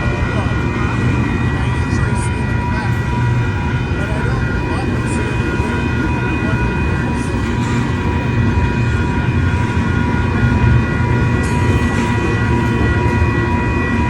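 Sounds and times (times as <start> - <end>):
passing train rumble: 0.0 - 14.0.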